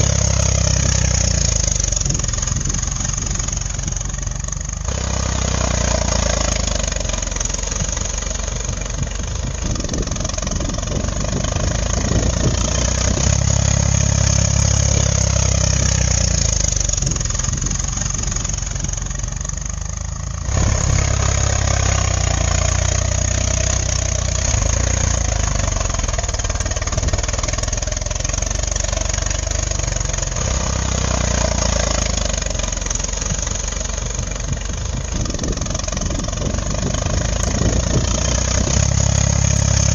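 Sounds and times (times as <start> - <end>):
motor droning: 0.0 - 19.7, 20.3 - 39.9.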